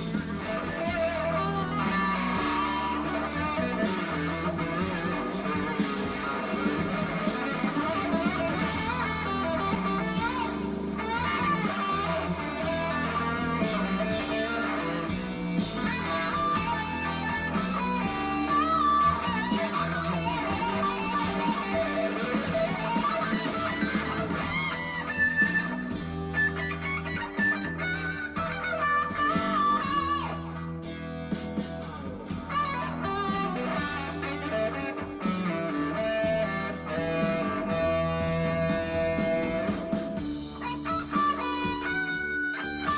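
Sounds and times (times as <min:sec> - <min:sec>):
bass and drums backing track: 0:00.0 - 0:42.9
electric guitar lead: 0:00.0 - 0:42.9.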